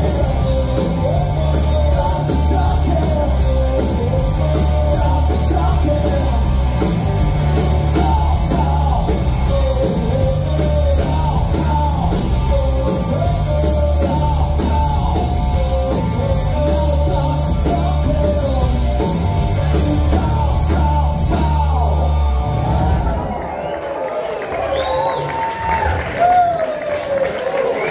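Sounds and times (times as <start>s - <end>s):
lead singer's voice: 0.0s - 23.3s
rock band playing live: 0.0s - 23.6s.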